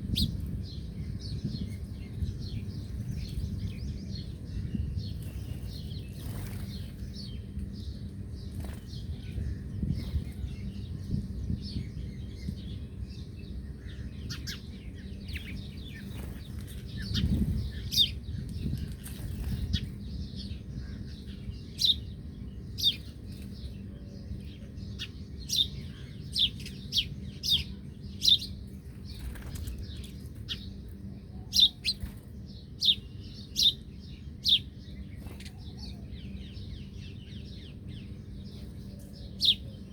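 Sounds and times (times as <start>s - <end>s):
birds chirping: 0.0s - 39.9s
low steady rumble: 0.0s - 39.9s.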